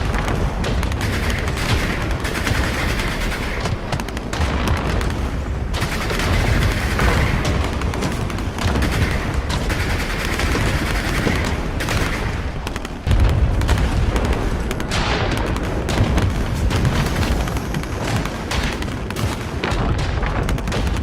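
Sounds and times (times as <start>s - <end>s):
gunfire and machine-gun fire: 0.0s - 21.0s
rumbling booms: 3.7s - 21.0s.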